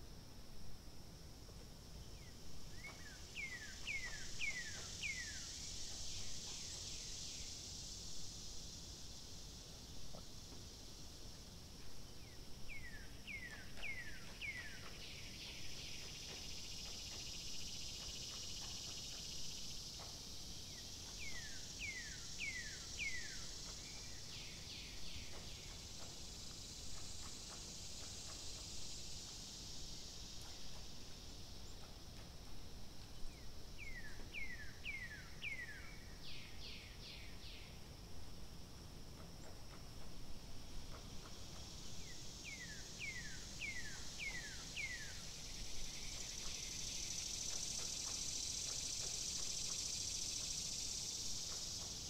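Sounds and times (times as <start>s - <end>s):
high insect hiss: 0.0s - 52.0s.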